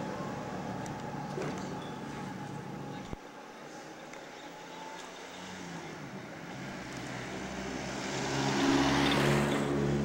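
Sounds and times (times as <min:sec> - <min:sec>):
vehicle engine and tyre noise: 0:00.0 - 0:10.0.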